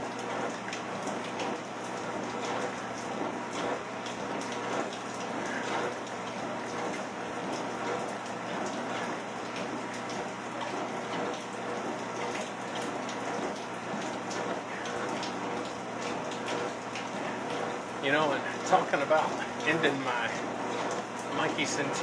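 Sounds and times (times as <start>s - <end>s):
steady rain falling: 0.0s - 22.0s
treadmill motor hum: 0.0s - 22.0s.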